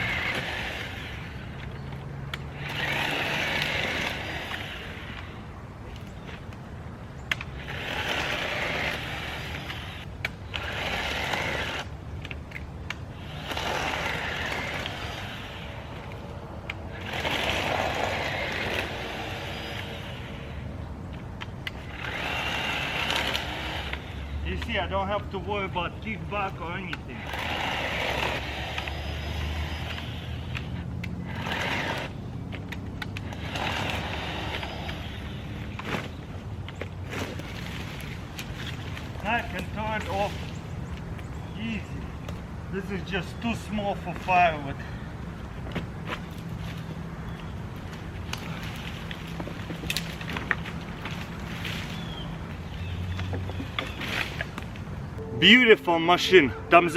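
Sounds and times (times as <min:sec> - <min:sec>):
electric chainsaw cutting branches: 0:00.0 - 0:06.1, 0:07.2 - 0:44.8, 0:45.7 - 0:56.9.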